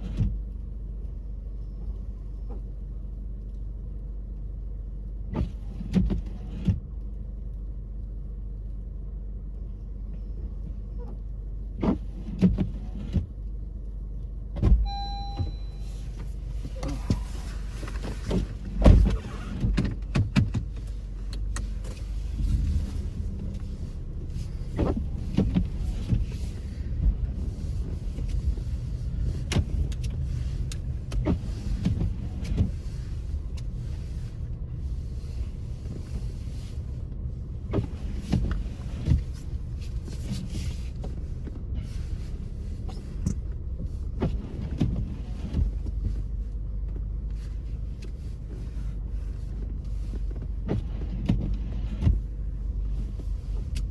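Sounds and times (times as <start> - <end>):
engine and tyres rumbling: 0.0 - 53.9.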